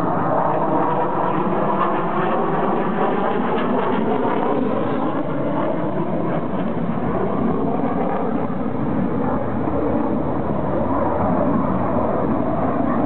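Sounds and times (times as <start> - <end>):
jet flying overhead: 0.0 - 13.0.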